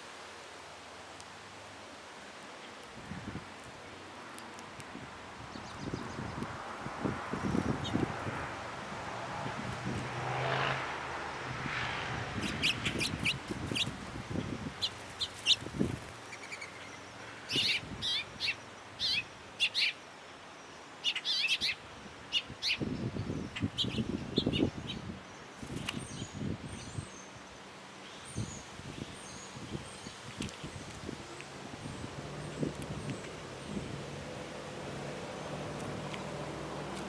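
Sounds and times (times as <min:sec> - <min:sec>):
wild birds chirping: 0:02.5 - 0:37.0.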